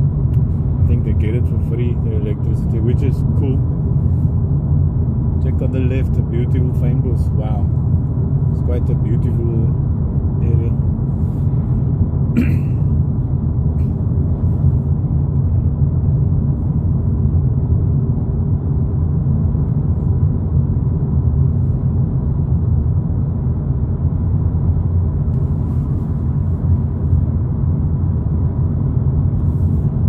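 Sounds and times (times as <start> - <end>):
car cabin road noise: 0.0 - 30.0.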